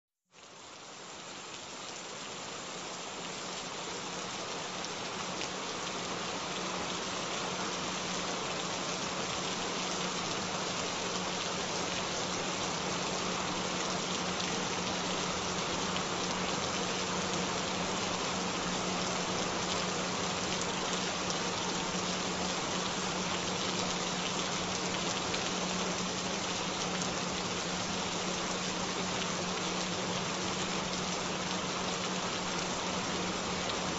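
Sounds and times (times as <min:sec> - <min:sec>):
steady rain: 0:00.3 - 0:33.9.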